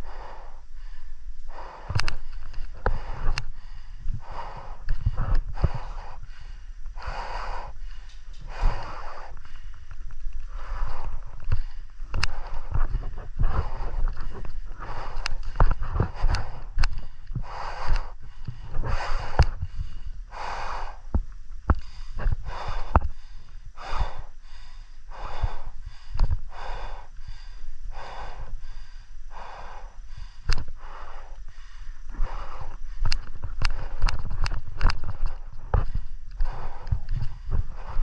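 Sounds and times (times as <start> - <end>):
heavy breathing: 0.0 - 38.0.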